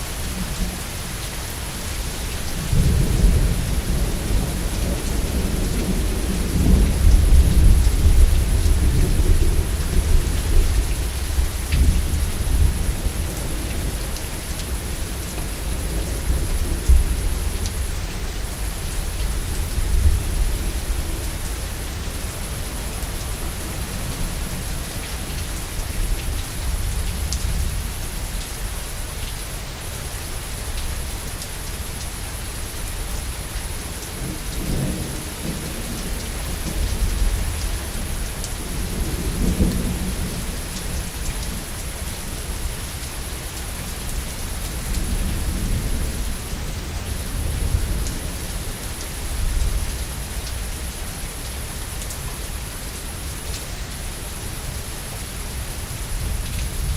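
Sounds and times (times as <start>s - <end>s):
heavy rain hissing: 0.0s - 56.9s.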